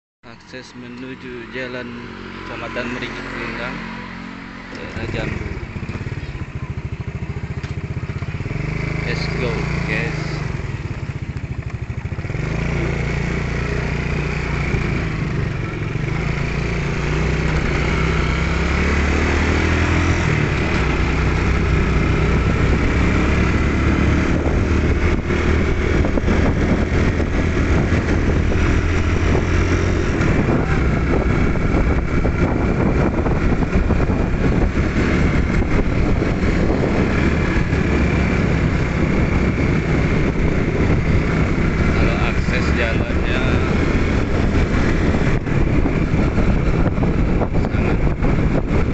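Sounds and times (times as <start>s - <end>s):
motorcycle engine accelerating: 0.4s - 48.9s.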